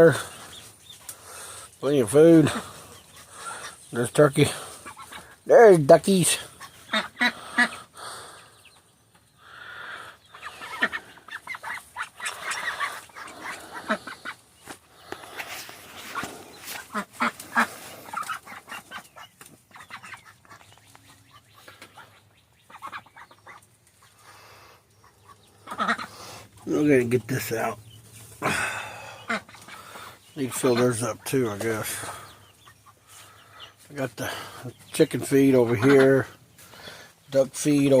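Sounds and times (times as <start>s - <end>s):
chickens clucking: 0.0s - 38.0s
ducks quacking: 0.0s - 38.0s.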